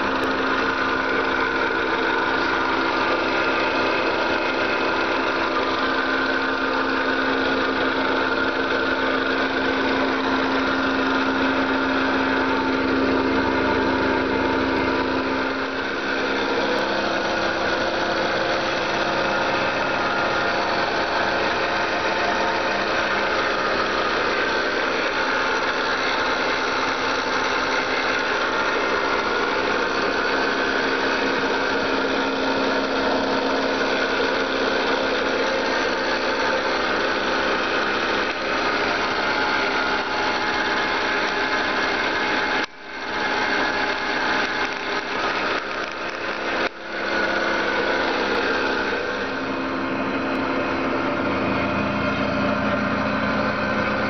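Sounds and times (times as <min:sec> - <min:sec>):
small car engine running: 0:00.0 - 0:54.0.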